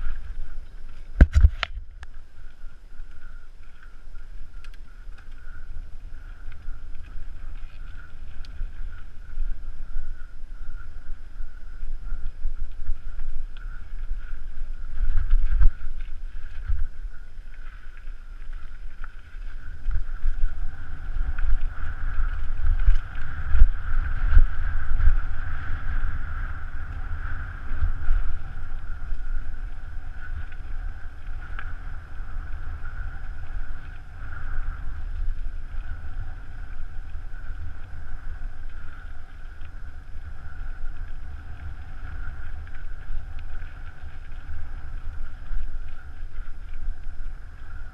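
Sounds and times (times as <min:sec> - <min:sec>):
bike rattling over dirt trail: 0:00.0 - 0:47.9
wind buffeting microphone: 0:00.0 - 0:47.9.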